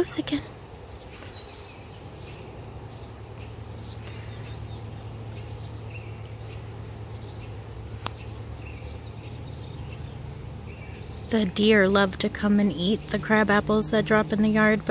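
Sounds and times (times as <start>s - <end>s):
low background rumble: 0.0s - 14.9s
small birds chirping: 0.0s - 14.9s.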